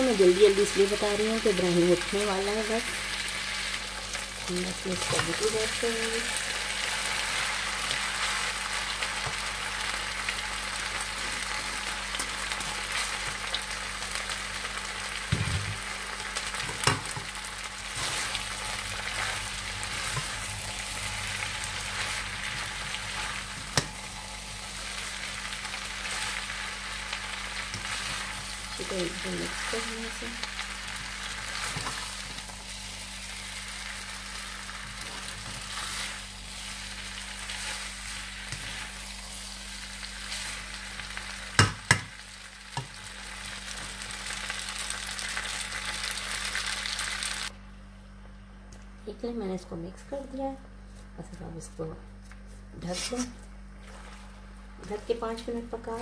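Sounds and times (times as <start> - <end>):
food sizzling in a wok: 0.0 - 47.5, 53.0 - 56.0.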